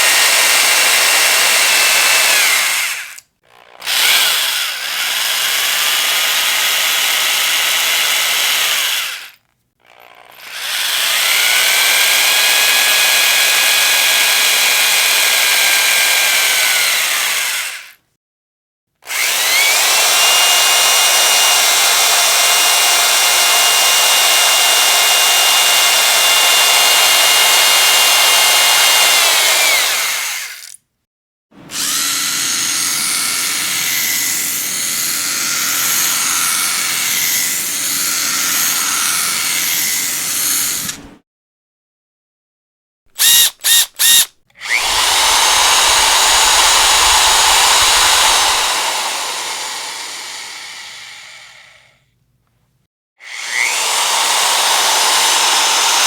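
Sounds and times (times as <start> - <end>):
electric drill whining: 0.0 - 18.0, 19.1 - 30.8, 31.7 - 41.0, 43.2 - 52.0, 53.2 - 56.0.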